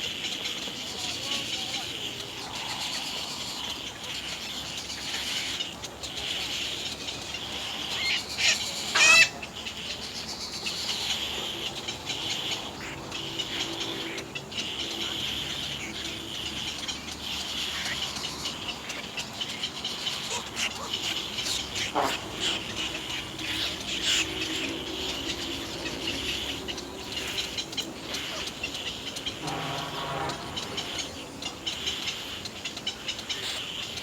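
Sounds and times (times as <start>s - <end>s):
bird call: 0.0s - 34.0s
high-pitched background hiss: 0.0s - 34.0s.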